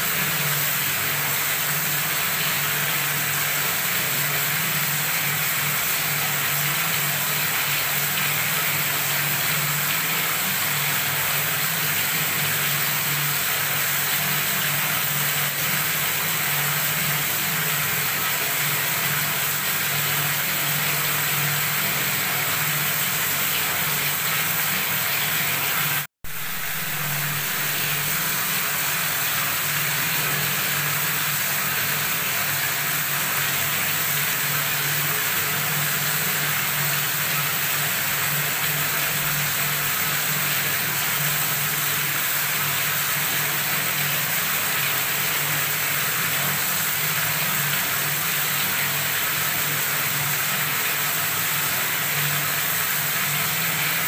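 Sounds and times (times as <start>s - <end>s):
tap running into tub: 0.0s - 54.0s.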